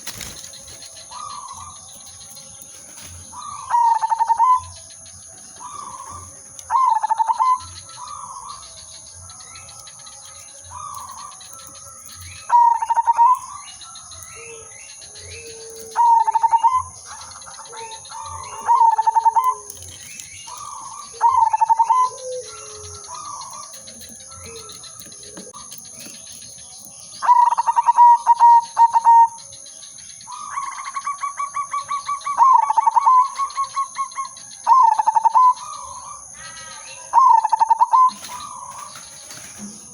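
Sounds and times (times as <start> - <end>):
dove cooing: 0.0 - 4.9, 5.5 - 9.0, 10.4 - 29.4, 30.3 - 39.9
faint birds calling: 0.0 - 39.9.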